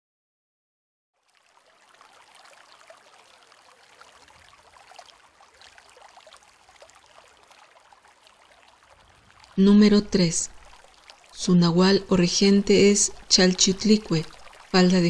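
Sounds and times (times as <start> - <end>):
trickling babbling water: 1.2 - 15.0.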